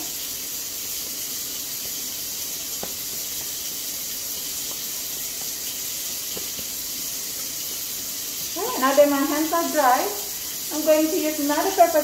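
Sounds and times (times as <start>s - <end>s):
faucet running into steel sink: 0.0s - 12.0s.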